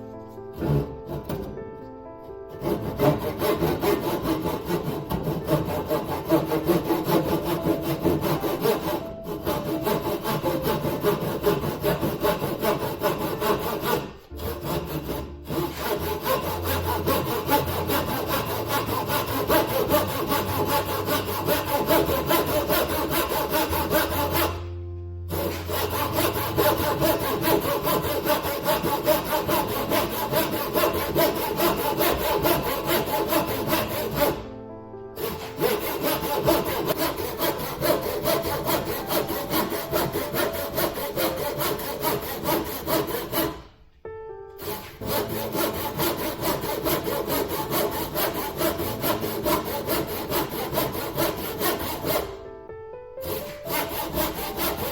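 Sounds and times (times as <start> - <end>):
saw cutting wood: 0.5 - 1.6, 2.5 - 34.6, 35.2 - 43.8, 44.6 - 52.4, 53.2 - 54.9.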